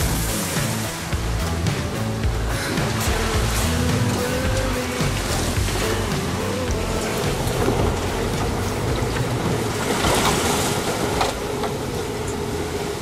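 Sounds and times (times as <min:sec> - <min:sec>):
breaking water splashes: 0:00.0 - 0:13.0
water rushing along hull: 0:00.0 - 0:13.0.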